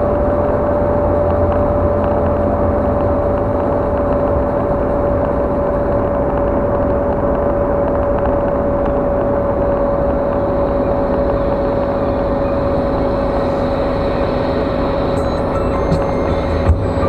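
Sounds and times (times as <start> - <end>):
car road noise: 0.0 - 17.0
faint steady whine: 0.0 - 17.0.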